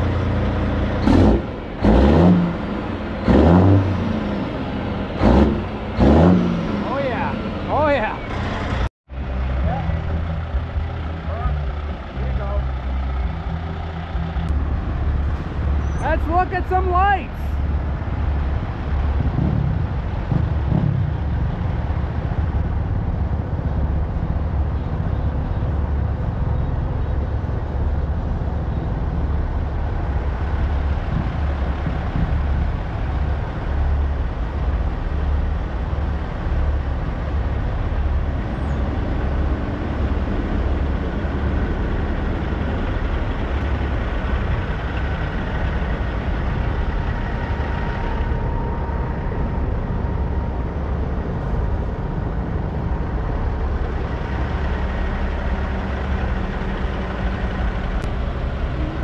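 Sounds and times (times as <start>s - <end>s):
truck engines idling: 0.0s - 59.0s.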